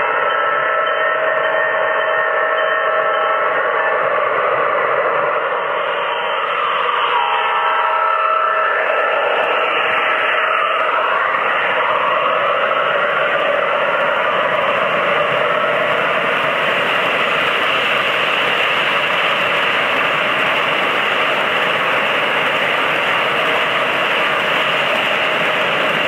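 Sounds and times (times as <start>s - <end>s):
model train wheels rumbling on rails: 0.0s - 26.0s.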